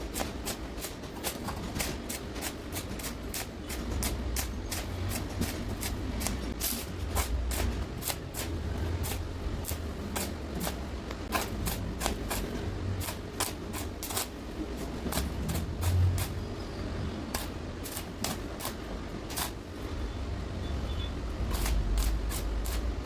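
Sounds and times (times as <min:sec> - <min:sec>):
welding arc crackling: 0:00.0 - 0:20.1, 0:20.7 - 0:23.0.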